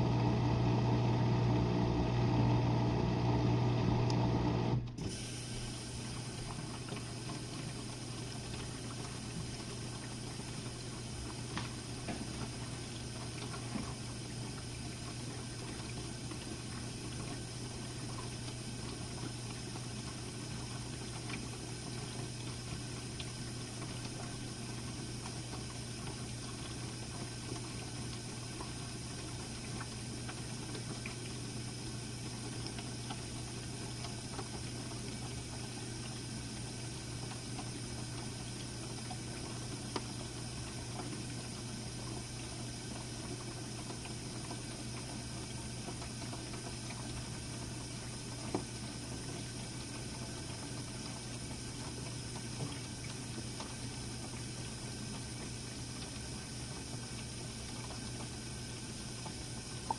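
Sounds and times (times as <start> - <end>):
dishwasher motor hum: 0.0 - 59.9
water rushing inside dishwasher: 0.0 - 59.9.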